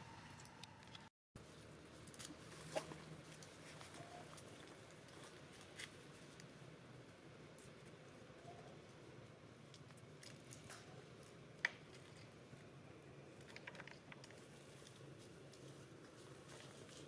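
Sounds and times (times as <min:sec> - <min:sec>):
faint clicks and rustles: 0:00.4 - 0:17.0.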